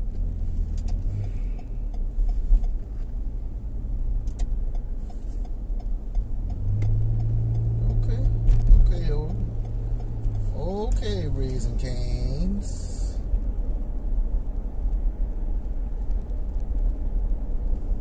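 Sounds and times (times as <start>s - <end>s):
low engine hum: 0.0s - 18.0s
road and engine rumble: 0.0s - 18.0s.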